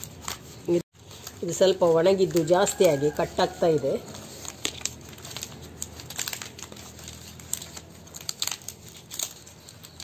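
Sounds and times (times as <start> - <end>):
dry palm leaves rustling: 0.0 - 10.0
brittle leaves cracking: 1.1 - 10.0.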